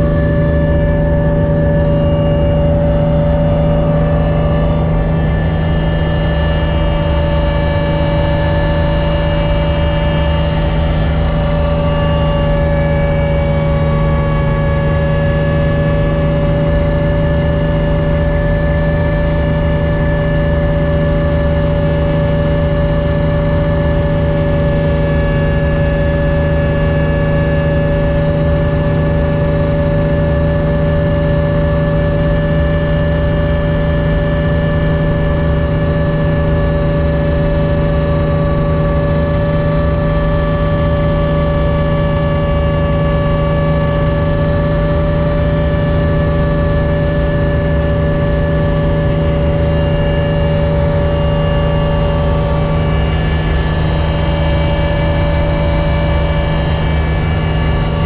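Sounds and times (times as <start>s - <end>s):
helicopter cabin drone: 0.0s - 58.0s
high-pitched whining tones: 0.0s - 58.0s.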